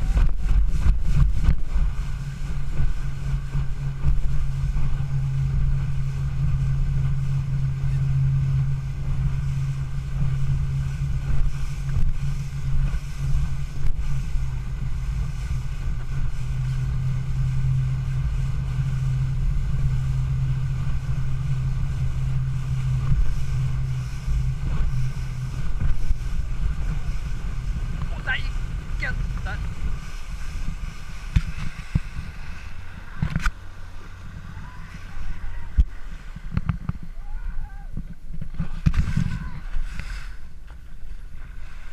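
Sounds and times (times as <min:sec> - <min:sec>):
motorboat engine running: 0:00.0 - 0:41.9
wind rumbling on microphone: 0:00.0 - 0:41.9.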